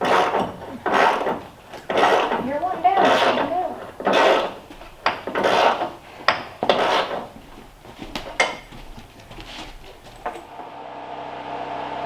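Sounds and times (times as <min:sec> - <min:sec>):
scraping on wood: 0:00.0 - 0:10.6
sharp knocks: 0:00.0 - 0:10.6.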